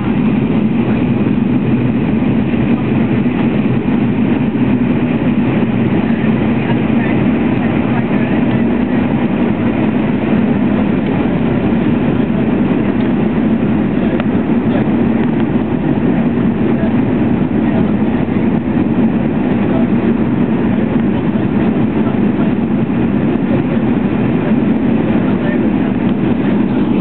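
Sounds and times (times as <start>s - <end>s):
jet airliner cabin drone: 0.0s - 27.0s.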